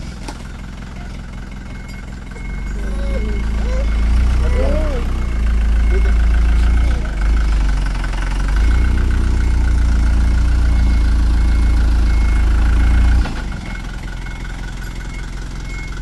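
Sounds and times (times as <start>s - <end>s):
diesel truck engine: 0.0s - 16.0s.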